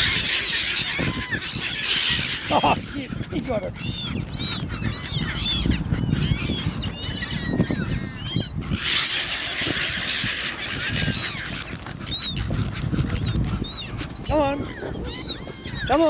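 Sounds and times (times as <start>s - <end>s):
gulls squawking: 0.0s - 16.0s.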